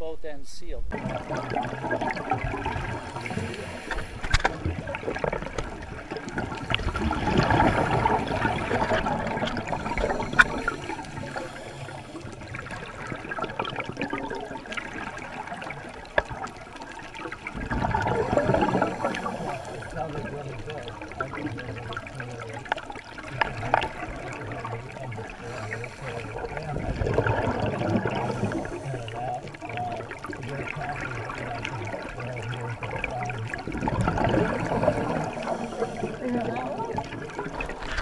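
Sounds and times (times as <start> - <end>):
underwater bubbles gurgling: 0.9 - 38.0.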